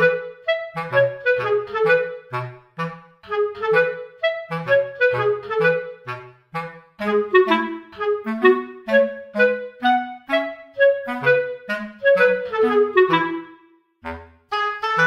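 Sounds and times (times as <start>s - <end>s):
bouncy background music: 0.0s - 15.0s.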